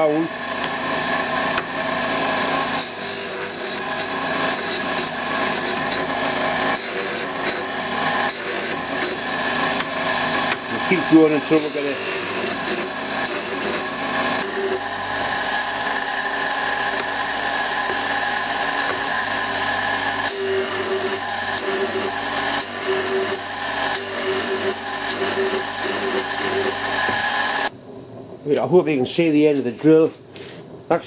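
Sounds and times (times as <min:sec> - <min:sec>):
drill bit grinding hiss: 0:00.0 - 0:27.7
grinder running: 0:00.0 - 0:27.7.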